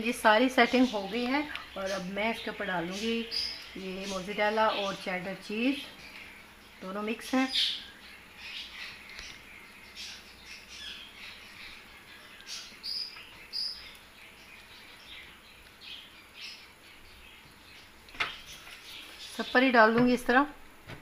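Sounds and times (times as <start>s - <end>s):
birds chirping: 0.0s - 20.6s.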